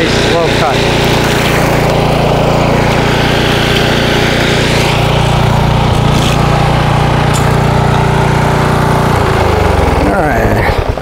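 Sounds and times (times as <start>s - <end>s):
string trimmer engine running: 0.0s - 11.0s
trimmer line cutting grass: 0.0s - 11.0s.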